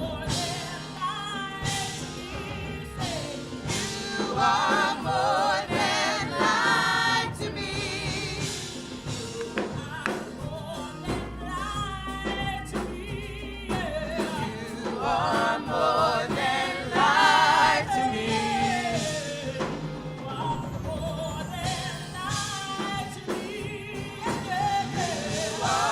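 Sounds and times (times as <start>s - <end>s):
band playing steady beat: 0.0s - 25.9s
choir singing gospel: 0.0s - 25.9s.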